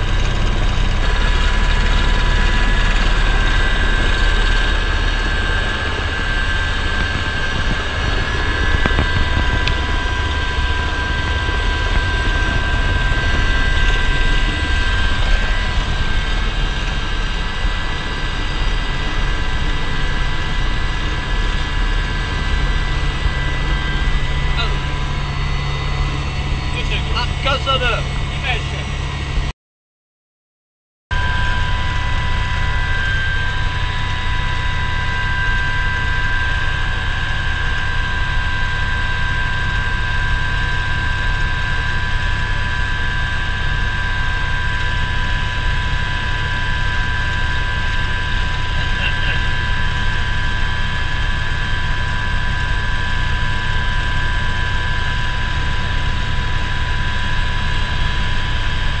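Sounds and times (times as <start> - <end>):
rotor and engine rumble: 0.0 - 29.4, 31.6 - 59.0
helicopter turbine whine: 0.0 - 29.5, 31.2 - 59.0.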